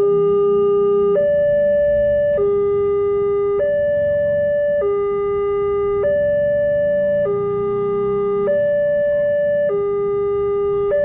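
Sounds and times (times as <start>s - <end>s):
two-tone crossing alarm: 0.0s - 11.0s.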